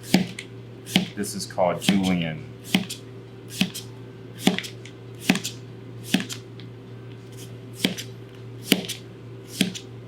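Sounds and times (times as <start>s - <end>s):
knife slicing on cutting board: 0.0s - 1.2s, 1.8s - 6.4s, 7.4s - 9.9s
steady low hum: 0.0s - 10.0s.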